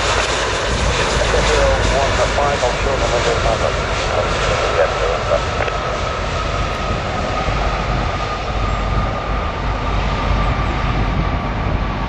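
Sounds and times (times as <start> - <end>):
jet airliner engines passing: 0.0 - 12.0.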